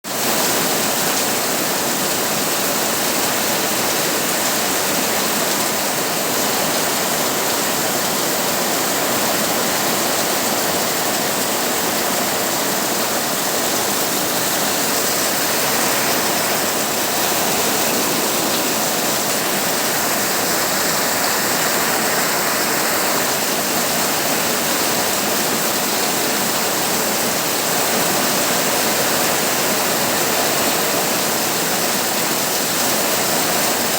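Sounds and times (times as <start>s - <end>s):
heavy rain on a tin roof: 0.0s - 33.9s.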